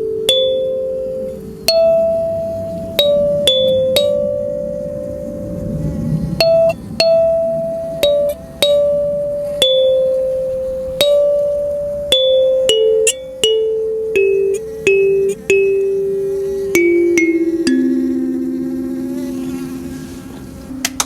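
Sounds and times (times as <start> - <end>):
kalimba melody: 0.0 - 21.0.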